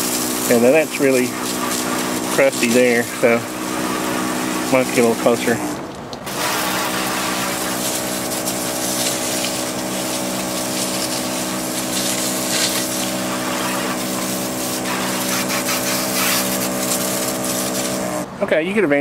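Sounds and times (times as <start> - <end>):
spray jet hissing on mud: 0.0 - 18.2
electric pump humming: 0.0 - 18.4.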